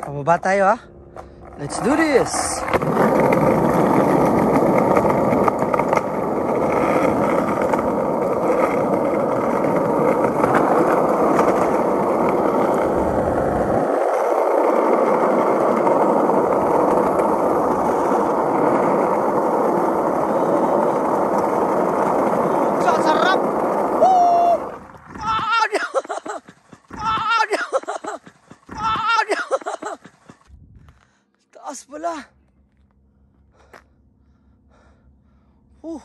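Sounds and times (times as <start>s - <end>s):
skateboard wheels rolling on asphalt: 0.0s - 31.2s.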